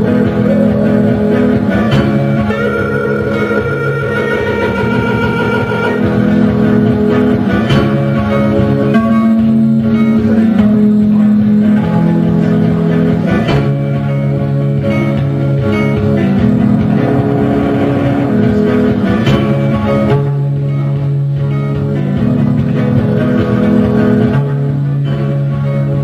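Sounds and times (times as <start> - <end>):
electric guitar chords: 0.0 - 26.0.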